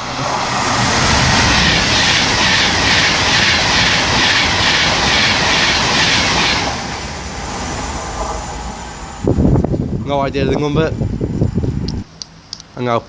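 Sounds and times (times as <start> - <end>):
electric train passing at speed: 0.0 - 12.5.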